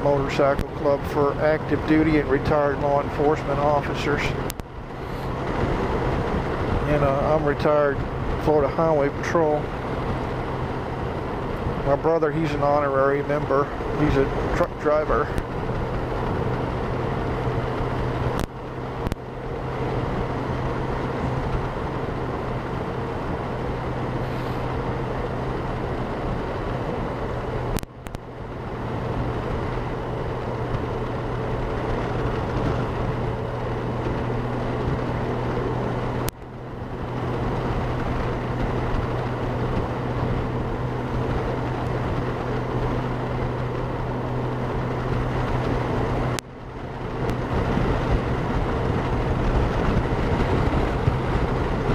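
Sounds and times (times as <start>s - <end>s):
motorcycle engine hum: 0.0s - 51.9s
wind rushing over microphone: 0.0s - 51.9s.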